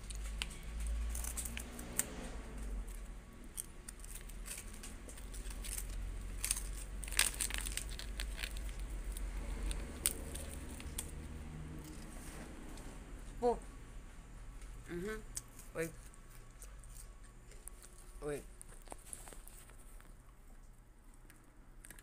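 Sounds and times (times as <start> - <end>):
crunchy snack being chewed: 0.0 - 2.2, 2.8 - 12.2, 15.3 - 22.0.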